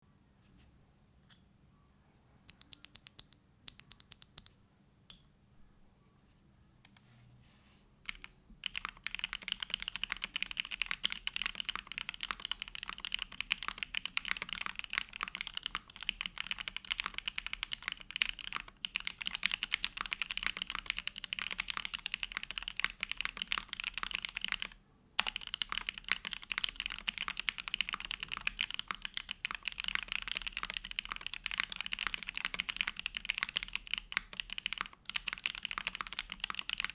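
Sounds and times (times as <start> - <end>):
typing on mechanical keyboard: 2.5 - 4.5, 8.1 - 36.9.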